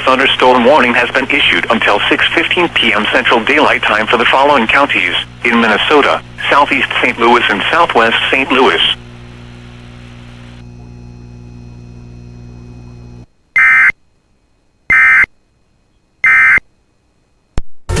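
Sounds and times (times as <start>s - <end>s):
low electrical hum: 0.0s - 17.6s.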